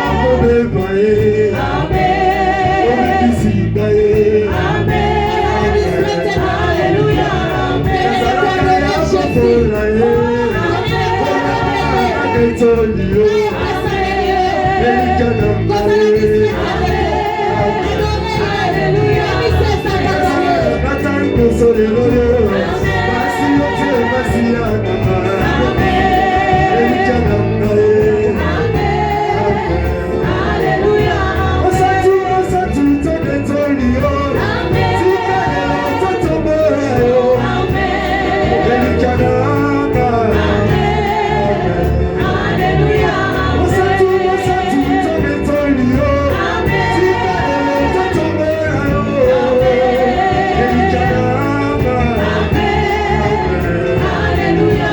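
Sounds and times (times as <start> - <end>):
band accompaniment: 0.0 - 54.9
singers with vibrato: 0.0 - 54.9.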